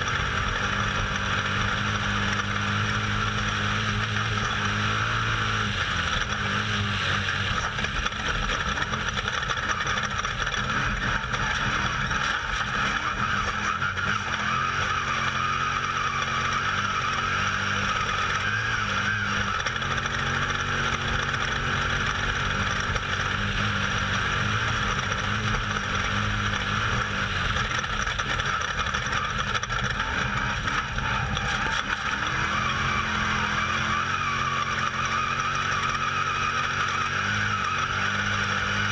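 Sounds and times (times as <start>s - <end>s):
terrain noise: 0.0s - 38.8s
off-road vehicle engine running hard: 0.0s - 38.9s.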